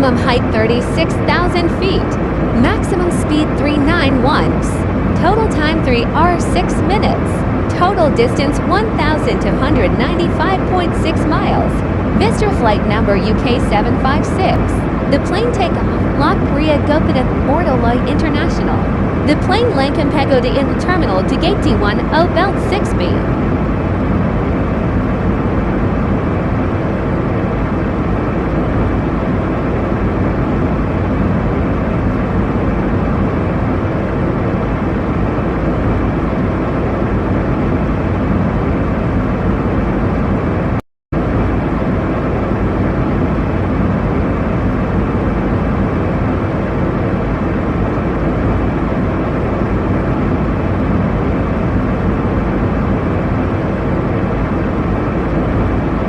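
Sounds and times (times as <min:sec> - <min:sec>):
jet airliner cabin drone: 0:00.0 - 0:56.0.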